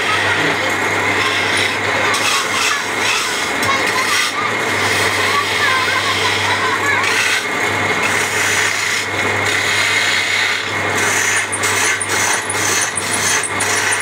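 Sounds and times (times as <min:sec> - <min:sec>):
chisel scraping spinning wood: 0:00.0 - 0:14.0
wood lathe humming: 0:00.0 - 0:14.0.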